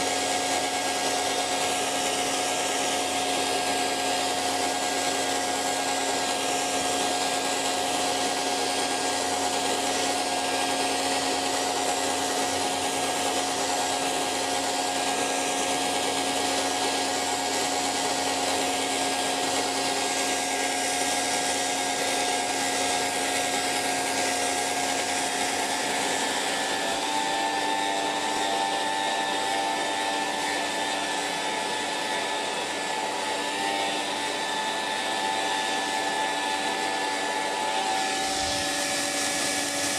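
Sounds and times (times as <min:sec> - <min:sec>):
hairdryer blowing: 0:00.0 - 0:39.9.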